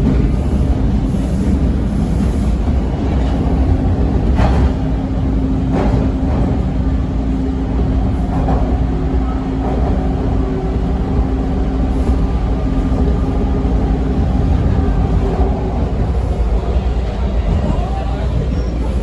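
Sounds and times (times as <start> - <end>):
subway car rumble and hum: 0.0 - 19.0.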